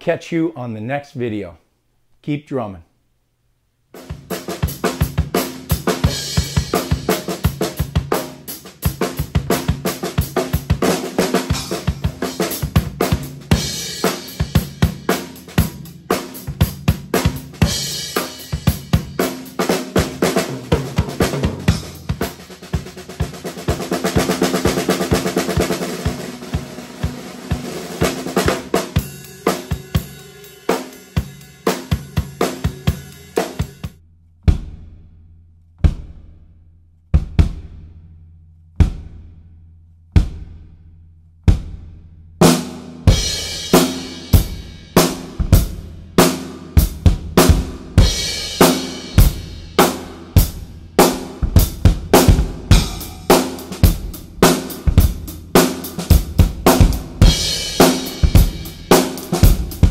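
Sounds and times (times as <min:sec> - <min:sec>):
drum kit playing: 0:03.9 - 0:35.0, 0:35.8 - 0:36.3, 0:37.2 - 0:37.9, 0:38.8 - 0:39.3, 0:41.5 - 0:59.9.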